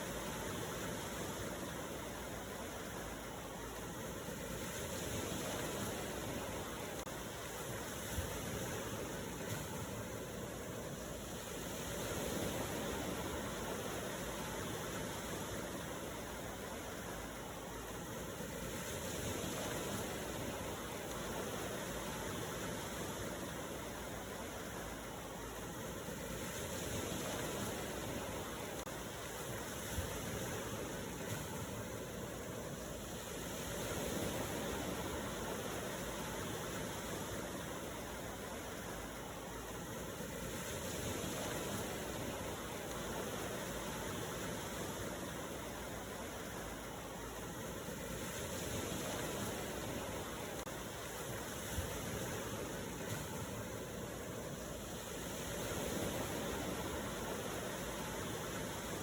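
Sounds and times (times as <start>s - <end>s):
ocean surf: 0.0s - 59.0s.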